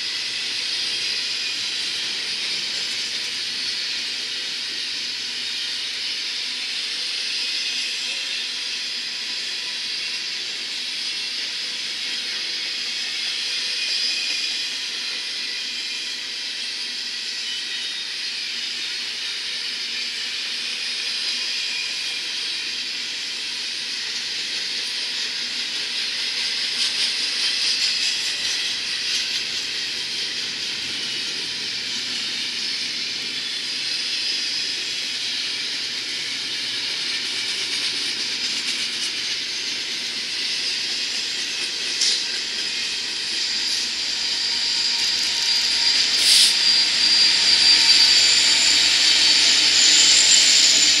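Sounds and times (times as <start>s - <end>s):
high squeal: 0.0s - 51.0s
train wheels on rails: 0.0s - 51.0s.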